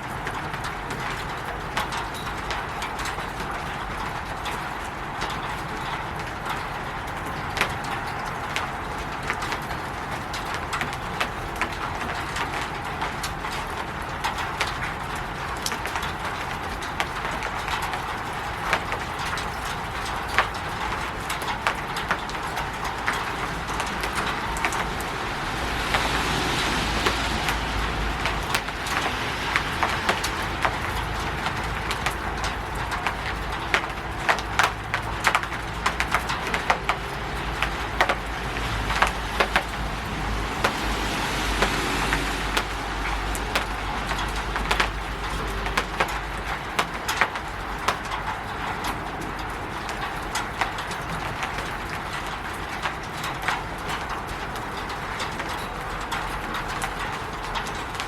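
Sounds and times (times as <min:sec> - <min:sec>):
rain on a roof: 0:00.0 - 0:58.0
sharp drip ticks: 0:00.0 - 0:58.0.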